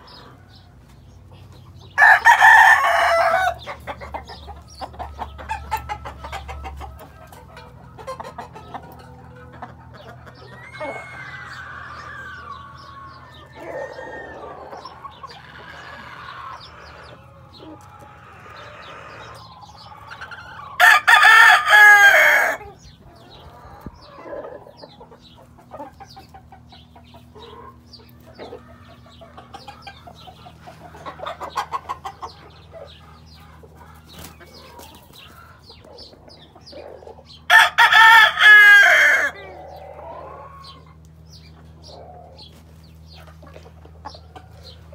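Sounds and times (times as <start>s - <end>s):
fowl clucking and calling: 0.0s - 44.9s
roosters crowing: 0.0s - 44.9s.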